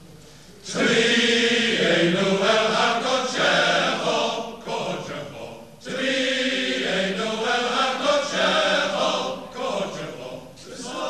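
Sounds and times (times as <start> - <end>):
male voice choir singing: 0.6 - 11.0.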